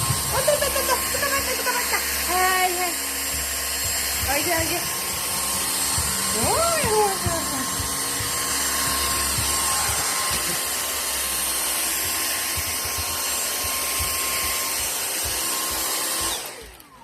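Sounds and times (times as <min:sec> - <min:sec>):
vacuum cleaner motor whining: 0:00.0 - 0:17.0.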